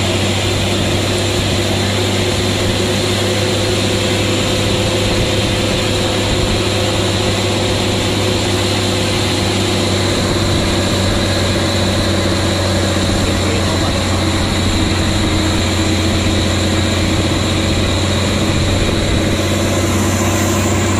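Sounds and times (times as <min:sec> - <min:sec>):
truck engine humming: 0:00.0 - 0:20.9.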